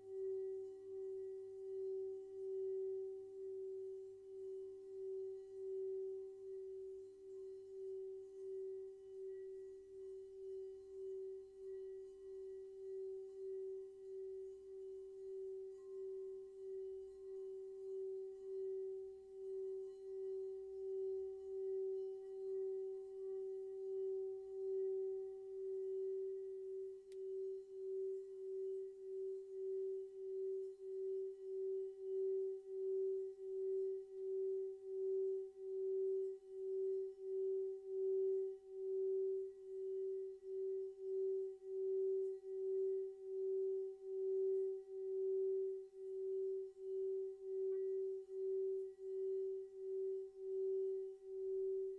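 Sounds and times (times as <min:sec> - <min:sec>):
singing bowl ringing tone: 0:00.0 - 0:51.9.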